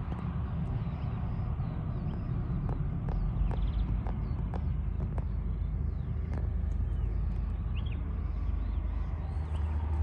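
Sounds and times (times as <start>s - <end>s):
diesel locomotive rumble: 0.0s - 10.0s
small birds chirping: 0.0s - 10.0s.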